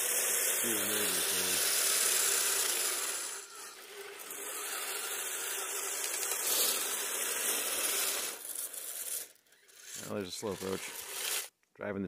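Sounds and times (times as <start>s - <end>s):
toy vehicle motor running: 0.0s - 11.5s.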